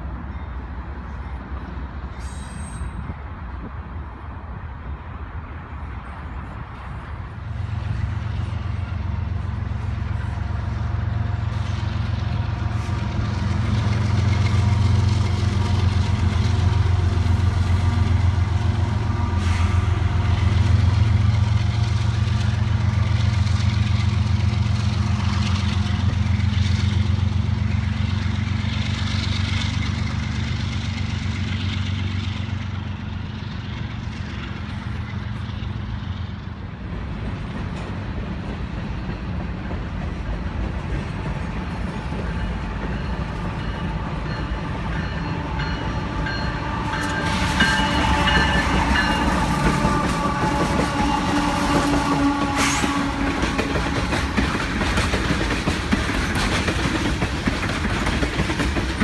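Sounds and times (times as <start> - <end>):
diesel locomotive engine drone: 0.0 - 59.0
train wheel and rail noise: 0.0 - 59.0.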